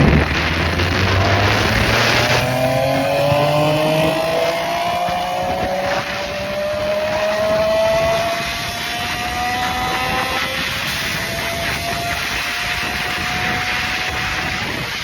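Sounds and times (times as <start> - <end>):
motorcycle engine accelerating: 0.0 - 15.0
rush of noise: 0.0 - 15.0.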